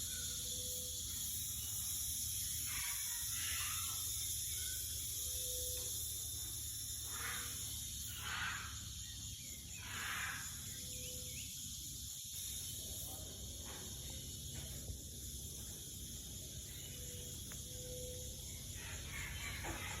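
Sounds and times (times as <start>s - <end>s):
high insect chirring: 0.0s - 20.0s.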